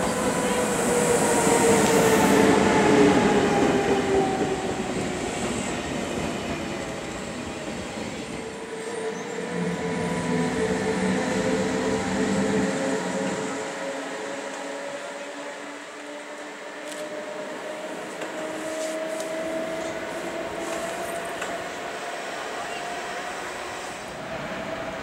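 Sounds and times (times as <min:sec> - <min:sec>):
locomotive whine: 0:00.0 - 0:25.0
train wheels rumbling on rails: 0:00.0 - 0:25.0.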